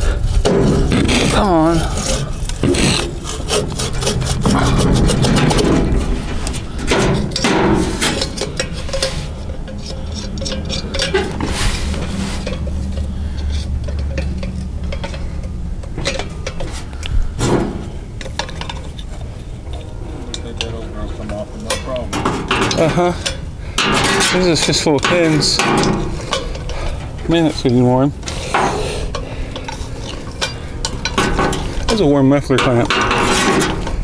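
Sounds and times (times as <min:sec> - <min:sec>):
low steady rumble: 0:00.0 - 0:34.0
metal scraping and clinking: 0:00.0 - 0:34.0.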